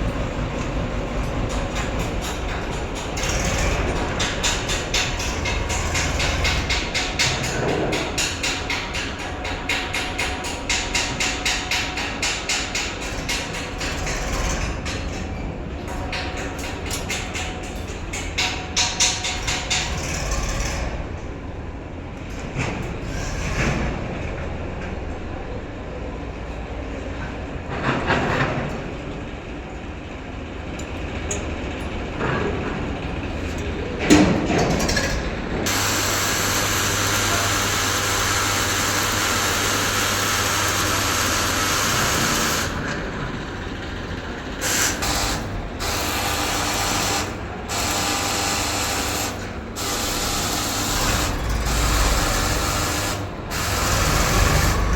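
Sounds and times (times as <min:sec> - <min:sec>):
heavy diesel machinery engines: 0:00.0 - 0:54.9.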